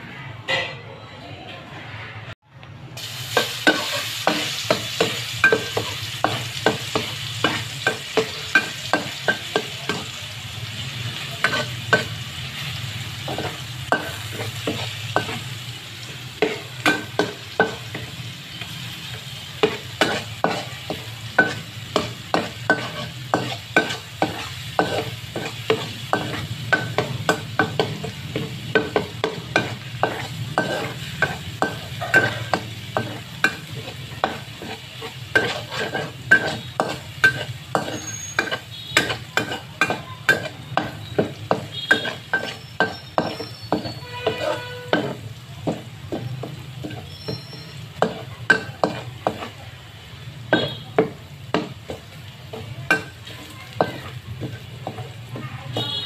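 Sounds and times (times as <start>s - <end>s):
garlic sizzling in hot oil: 3.0s - 56.0s
spatula scraping a pan: 3.3s - 10.2s, 11.2s - 49.6s.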